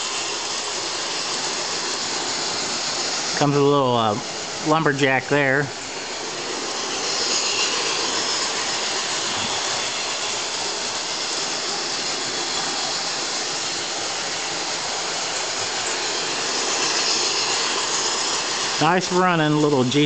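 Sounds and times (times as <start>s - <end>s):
model steam train hissing: 0.0s - 20.0s.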